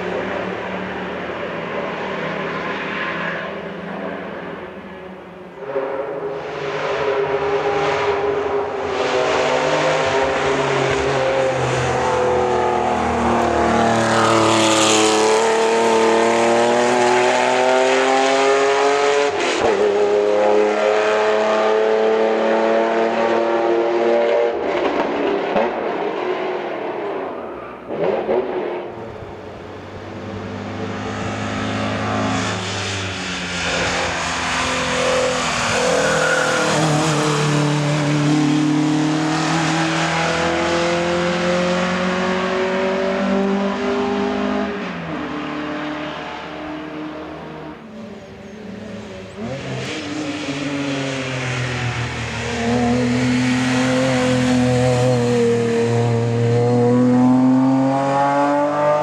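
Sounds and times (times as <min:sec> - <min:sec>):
car engine accelerating hard: 0:06.8 - 0:26.0, 0:28.0 - 0:47.8, 0:48.7 - 0:59.0.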